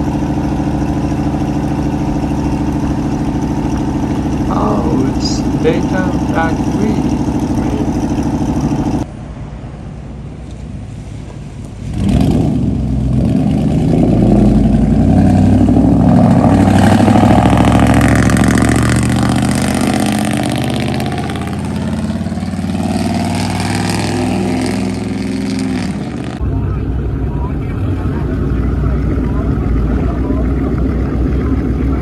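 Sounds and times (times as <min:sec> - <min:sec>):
truck engine revving: 0:00.0 - 0:09.1, 0:11.8 - 0:32.0.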